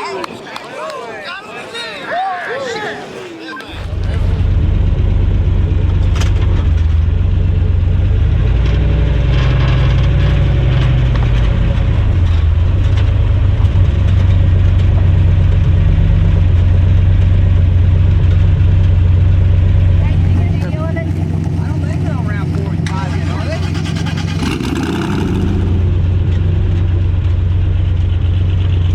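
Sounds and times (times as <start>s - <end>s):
car engine idling loudly: 3.7s - 28.9s.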